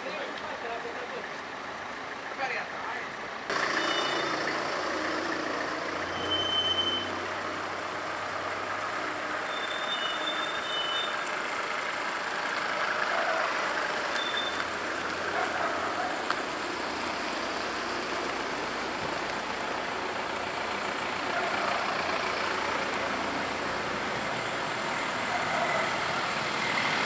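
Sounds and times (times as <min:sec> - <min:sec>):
cars driving past: 0:03.0 - 0:27.0.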